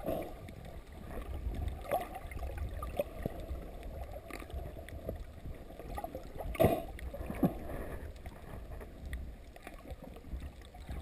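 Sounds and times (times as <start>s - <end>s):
underwater rumble of moving water: 0.0s - 11.0s.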